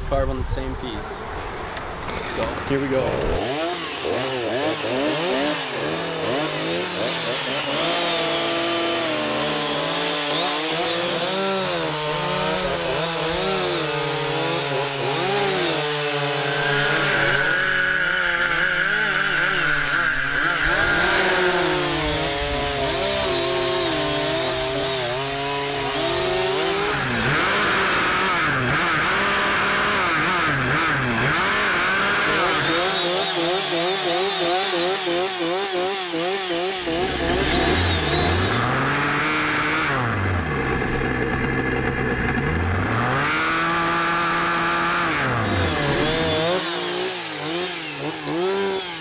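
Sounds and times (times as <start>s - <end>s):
chainsaws cutting wood: 2.0s - 49.0s.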